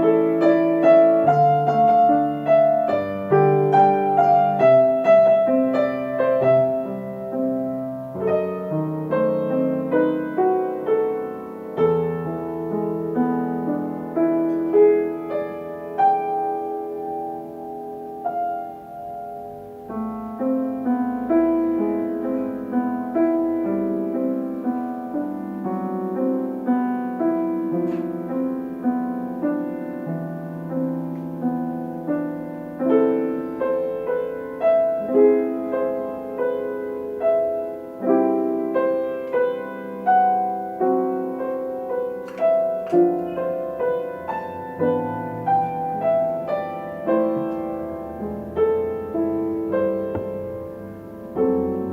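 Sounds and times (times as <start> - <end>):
solo piano piece: 0.0 - 51.9.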